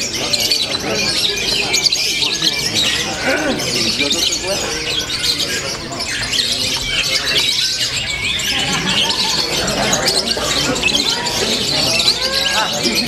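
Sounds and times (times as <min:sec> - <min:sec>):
lovebirds chirping and squawking: 0:00.0 - 0:13.0.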